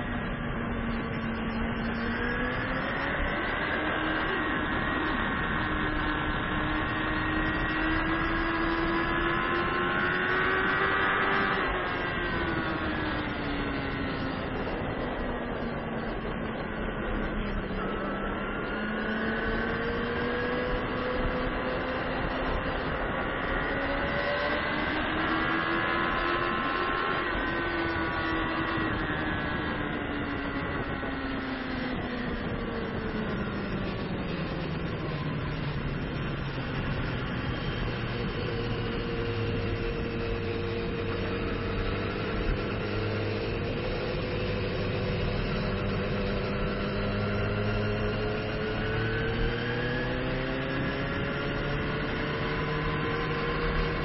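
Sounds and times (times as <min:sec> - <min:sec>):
motorbike engine at high revs: 0:00.0 - 0:54.0
wind rush on microphone: 0:00.0 - 0:54.0.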